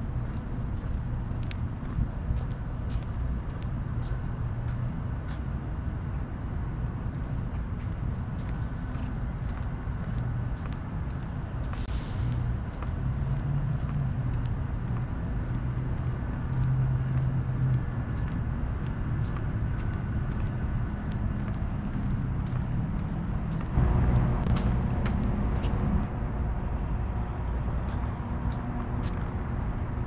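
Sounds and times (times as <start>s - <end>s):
car approaching: 0.0s - 30.0s
road traffic rumble: 0.0s - 30.0s.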